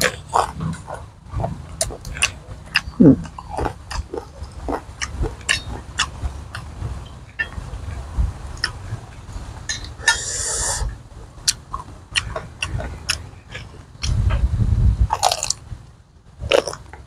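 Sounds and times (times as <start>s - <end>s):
biting and chewing: 0.0s - 10.7s, 11.4s - 14.5s, 15.1s - 15.7s, 16.4s - 17.0s.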